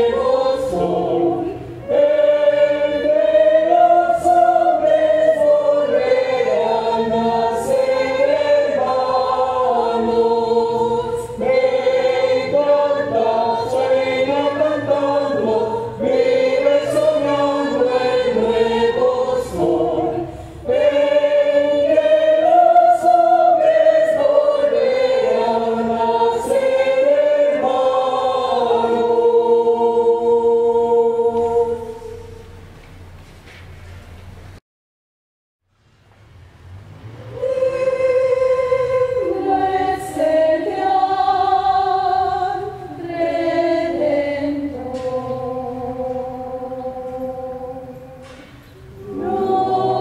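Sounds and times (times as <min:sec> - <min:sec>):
mixed choir singing carol: 0:00.0 - 0:32.7, 0:37.0 - 0:50.0.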